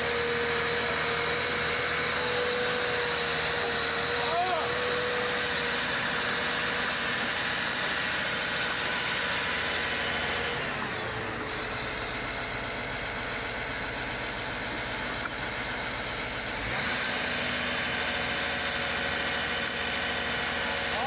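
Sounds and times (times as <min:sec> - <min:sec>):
heavy truck engine running: 0:00.0 - 0:21.0.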